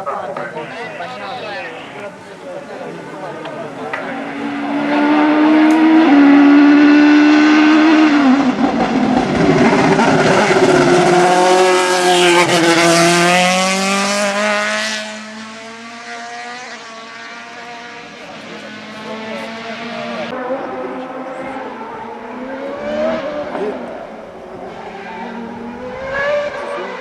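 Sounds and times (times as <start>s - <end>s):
racing car engine at high revs: 0.0s - 27.0s.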